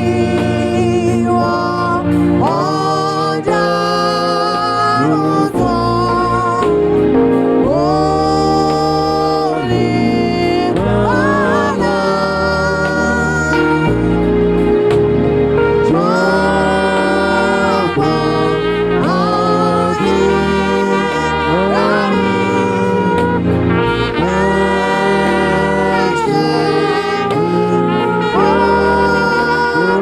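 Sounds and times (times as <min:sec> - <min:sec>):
sliding lead melody: 0:00.0 - 0:30.0
steady bass line: 0:00.0 - 0:30.0.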